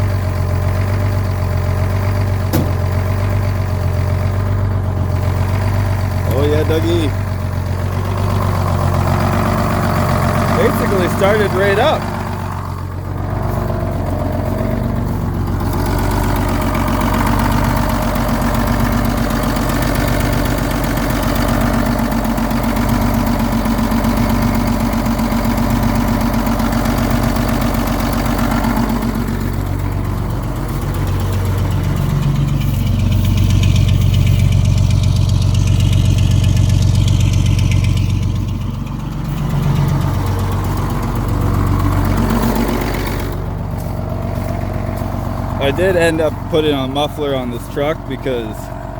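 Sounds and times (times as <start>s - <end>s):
diesel truck engine running: 0.0s - 48.9s.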